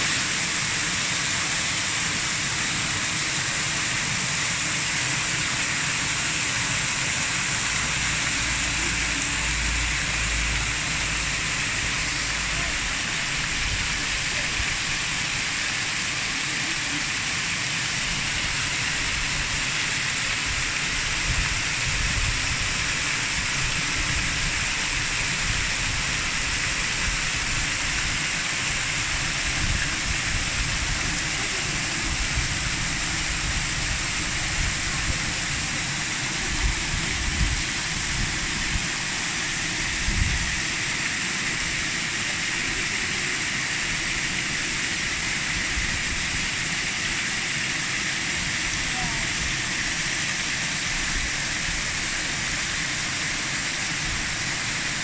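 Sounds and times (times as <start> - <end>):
waterfall splashing into basin: 0.0 - 55.0.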